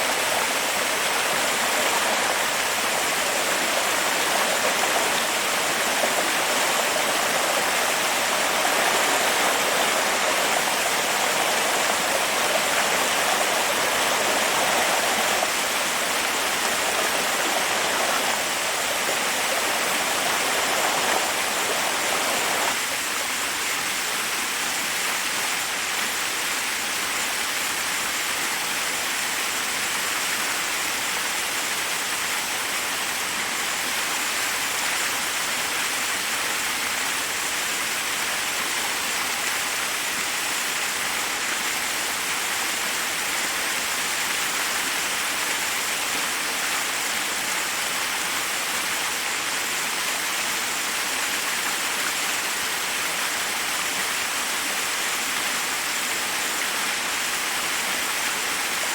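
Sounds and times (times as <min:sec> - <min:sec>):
water rushing over rocks: 0:00.0 - 0:58.9.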